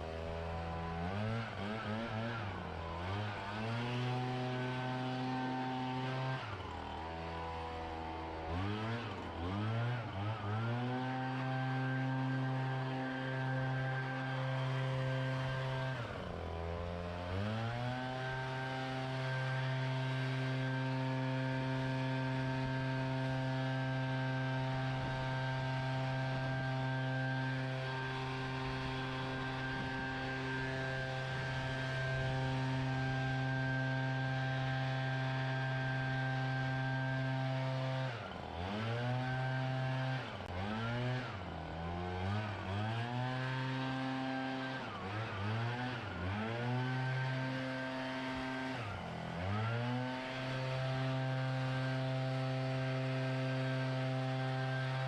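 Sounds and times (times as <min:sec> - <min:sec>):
leaf blower engine revving: 0:00.0 - 0:55.0.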